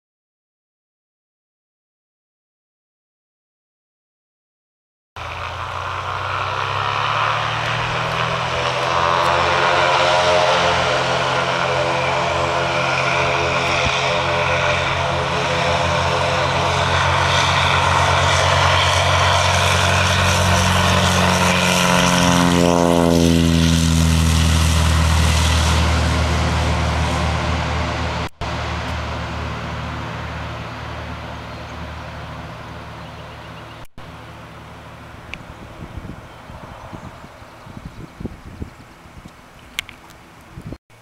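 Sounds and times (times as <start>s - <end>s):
propeller plane engine drone: 5.2s - 41.0s.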